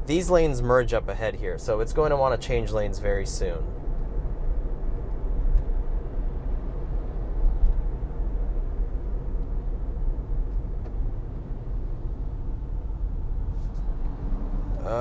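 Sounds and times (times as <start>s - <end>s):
road and tyre noise in car cabin: 0.0s - 15.0s.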